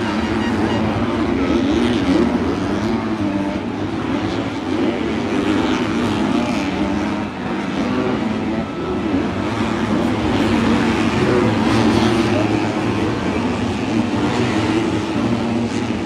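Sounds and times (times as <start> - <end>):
dirt bike engines: 0.0 - 16.0.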